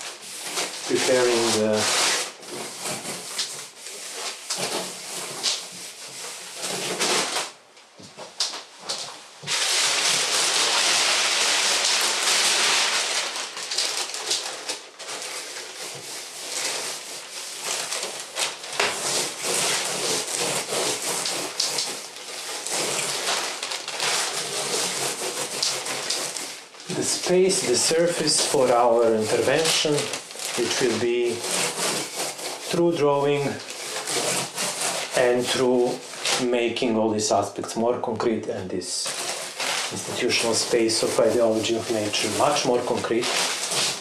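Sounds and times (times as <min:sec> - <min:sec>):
hands rubbing paper on canvas: 0:00.0 - 0:36.9, 0:39.0 - 0:44.0.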